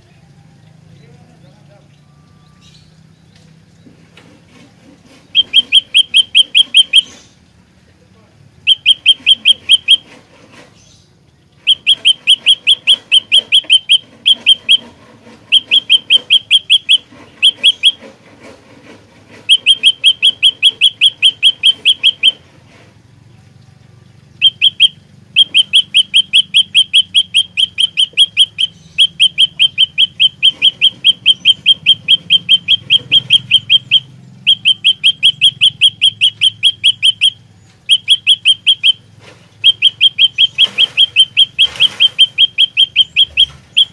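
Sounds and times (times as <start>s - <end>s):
songbird chirping rapidly: 0.0s - 43.9s.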